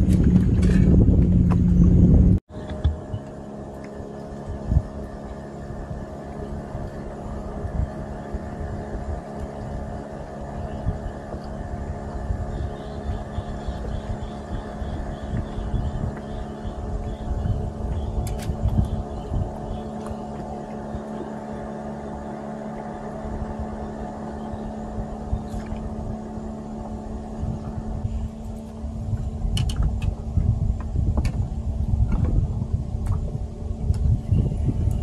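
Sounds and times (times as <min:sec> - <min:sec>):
boat motor humming: 0:00.0 - 0:35.0
low uneven rumble: 0:00.0 - 0:35.0.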